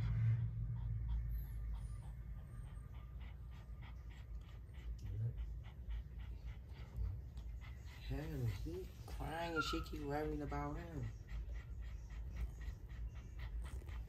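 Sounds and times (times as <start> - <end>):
dog panting rapidly: 0.0 - 14.0
faint dog whine: 0.0 - 14.0.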